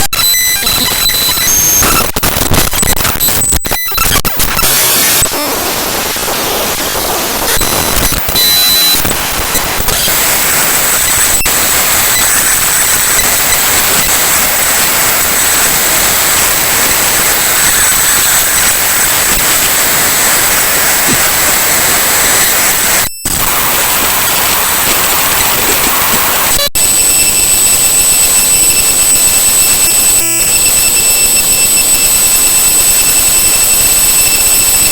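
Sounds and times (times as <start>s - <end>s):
harsh digital noise hiss: 0.0s - 34.9s.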